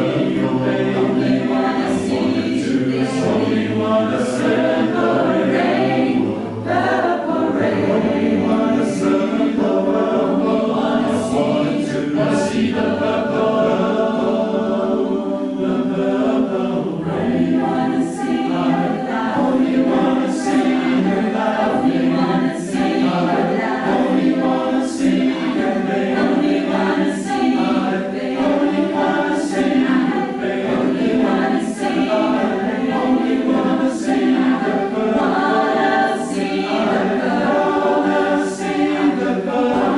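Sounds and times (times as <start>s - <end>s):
choir singing chords: 0.0s - 39.9s.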